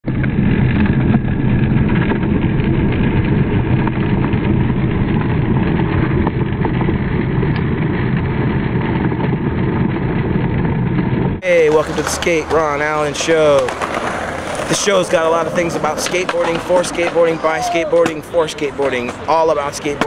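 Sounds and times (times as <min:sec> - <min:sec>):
skateboard wheels on rough pavement: 0:00.0 - 0:20.0.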